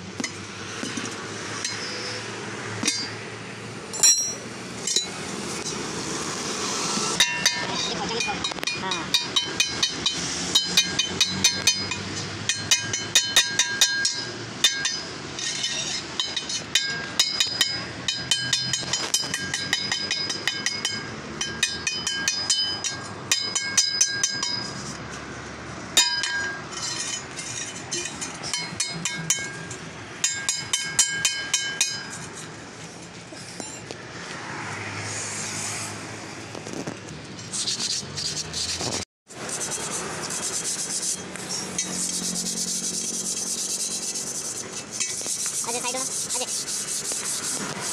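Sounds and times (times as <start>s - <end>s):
steel bar clinking on wheel rim: 2.8s - 3.2s, 3.9s - 5.8s, 7.2s - 25.2s, 26.0s - 33.9s, 37.4s - 47.9s.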